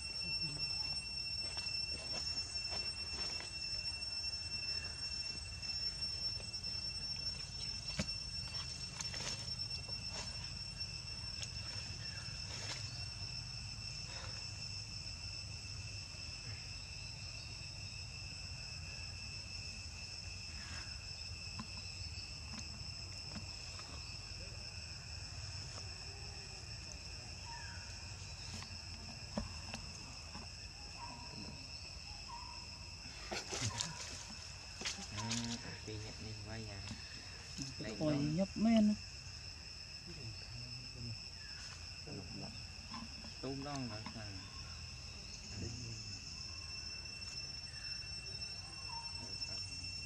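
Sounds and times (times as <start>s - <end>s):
insect drone: 0.0s - 50.0s.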